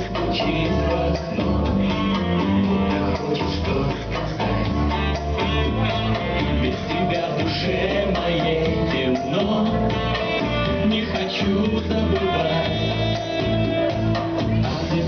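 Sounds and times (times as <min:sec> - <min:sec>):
pop music with guitar lead: 0:00.0 - 0:15.0.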